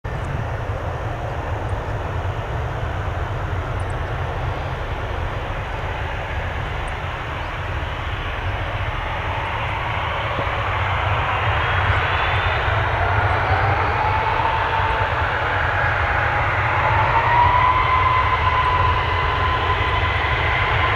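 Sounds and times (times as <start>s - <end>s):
jet engine whine rising: 0.1s - 20.9s
jet engines roaring: 0.1s - 20.9s.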